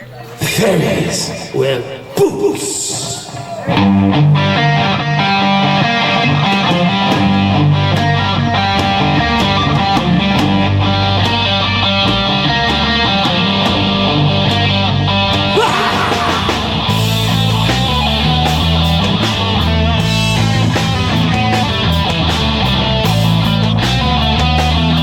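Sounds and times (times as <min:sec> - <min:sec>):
rock band playing live: 0:02.6 - 0:25.0
heavy electric guitar riff: 0:02.7 - 0:25.0.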